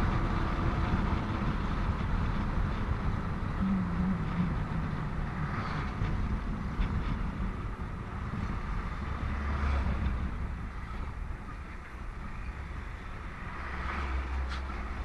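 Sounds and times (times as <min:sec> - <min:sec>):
motorcycle engine and road rumble: 0:00.0 - 0:15.0.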